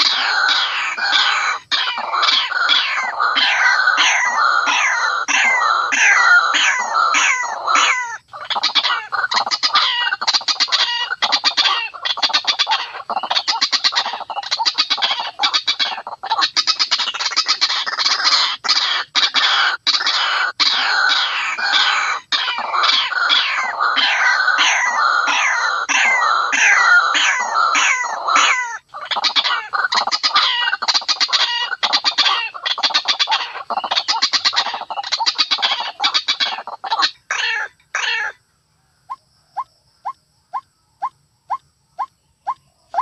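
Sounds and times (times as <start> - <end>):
waterhen calling: 0.0 - 38.4, 39.1 - 43.0.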